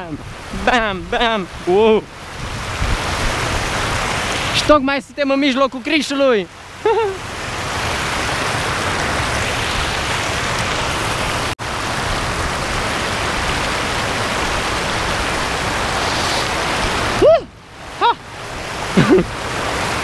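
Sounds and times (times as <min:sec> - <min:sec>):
river water rushing over weir: 0:00.0 - 0:20.0.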